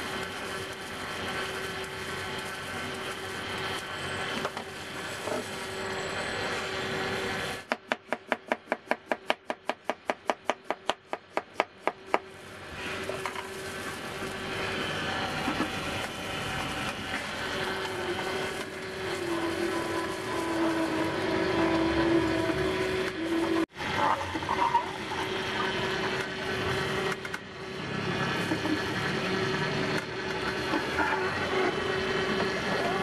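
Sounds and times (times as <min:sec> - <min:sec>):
juicer motor humming: 0:00.0 - 0:08.7, 0:11.0 - 0:33.0.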